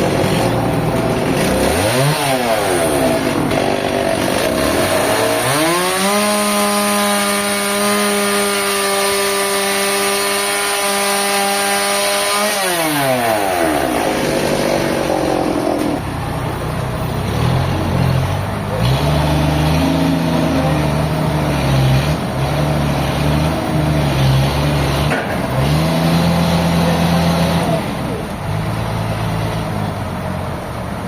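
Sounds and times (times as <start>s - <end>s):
engine revving: 0.0s - 16.1s, 17.1s - 30.2s.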